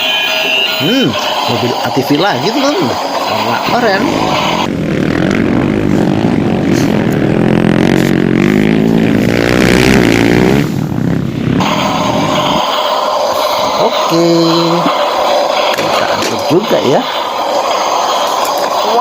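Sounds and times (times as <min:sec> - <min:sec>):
engine running and revving: 0:00.8 - 0:19.0.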